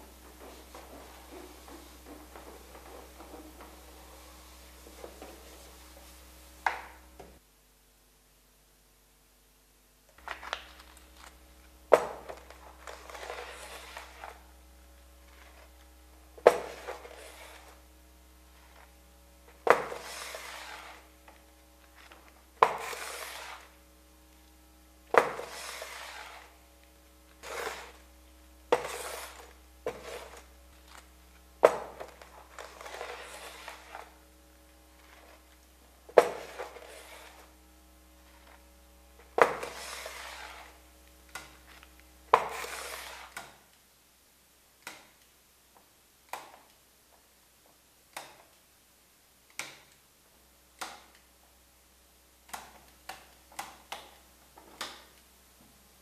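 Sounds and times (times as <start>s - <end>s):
steady low hum: 0.0s - 46.2s.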